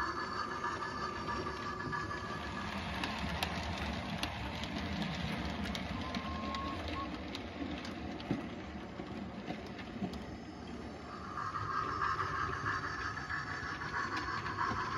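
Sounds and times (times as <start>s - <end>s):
model train whirring: 0.0s - 14.9s
wheels clicking on rails: 0.0s - 14.9s.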